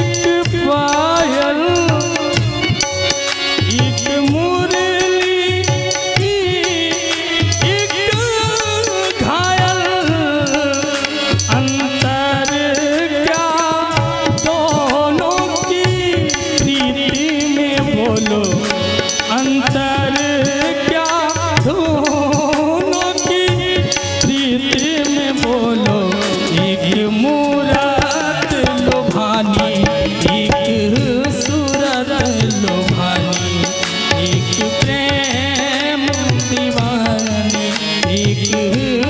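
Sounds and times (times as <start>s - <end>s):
tabla playing: 0.0s - 39.0s.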